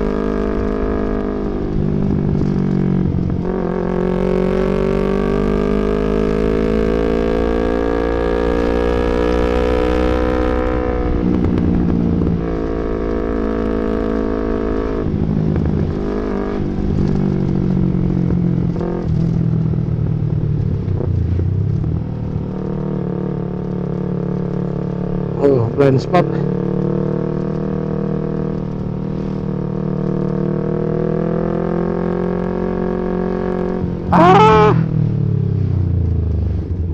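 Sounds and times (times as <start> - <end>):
motorcycle engine accelerating: 0.0 - 25.4, 26.3 - 36.9.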